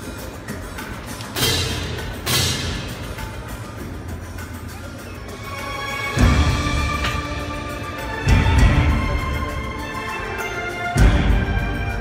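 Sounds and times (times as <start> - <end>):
live stage-show music: 0.0 - 12.0.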